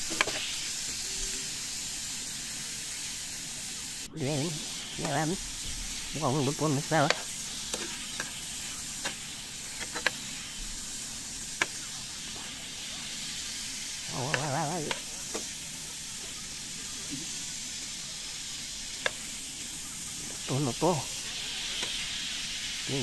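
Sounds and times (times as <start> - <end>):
sausage sizzling: 0.0 - 23.0.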